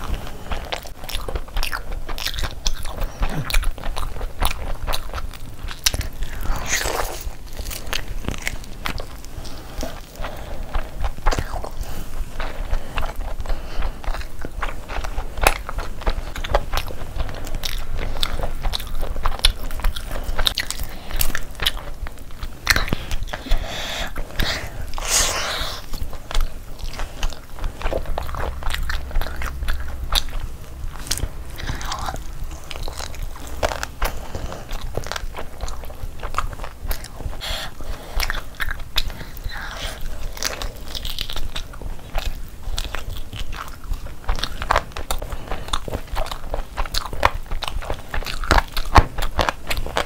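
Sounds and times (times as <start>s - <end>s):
biting and chewing: 0.0s - 50.0s.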